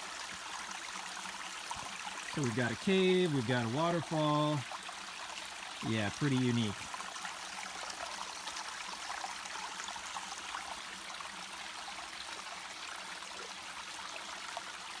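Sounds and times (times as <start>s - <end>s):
small waterfall splashing: 0.0s - 15.0s
water trickling over rock: 0.0s - 15.0s.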